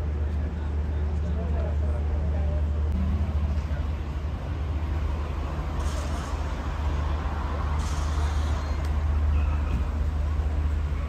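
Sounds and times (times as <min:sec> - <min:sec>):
boat machinery drone: 0:00.0 - 0:11.0.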